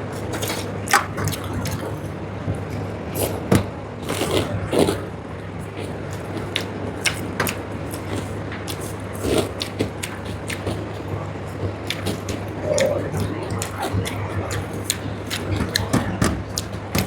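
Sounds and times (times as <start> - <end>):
steady low hum: 0.0 - 17.0
chewing: 2.7 - 17.0.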